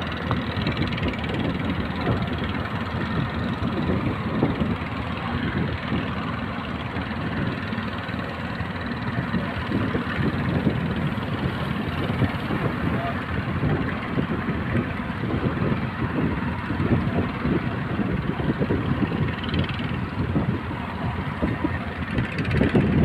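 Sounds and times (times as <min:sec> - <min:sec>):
boat engine running: 0:00.0 - 0:23.0
rough water: 0:00.0 - 0:23.0
wind: 0:00.0 - 0:23.0.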